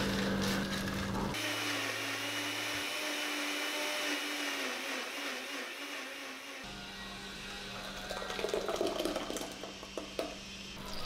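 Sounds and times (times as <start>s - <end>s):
blender whirring: 0.0s - 10.2s.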